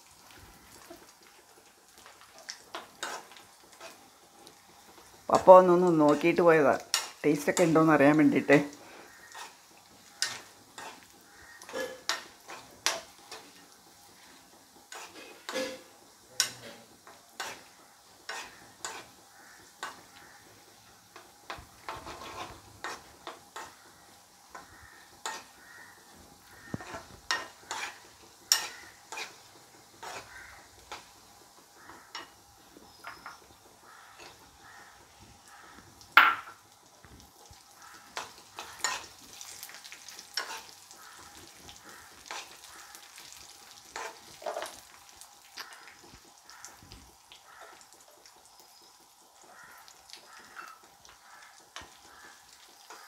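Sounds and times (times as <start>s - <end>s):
faint sizzle: 0.0s - 53.0s
spatula scraping and tapping pan: 2.0s - 7.9s, 8.9s - 20.5s, 21.1s - 37.2s, 37.8s - 44.9s, 49.6s - 53.0s.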